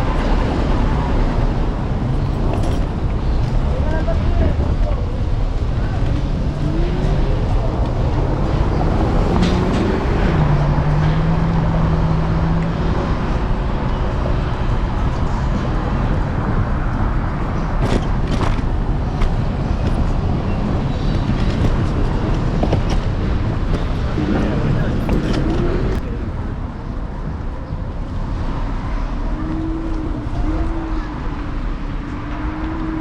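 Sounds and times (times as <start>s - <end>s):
street traffic: 0.0s - 33.0s
wind noise: 0.0s - 33.0s.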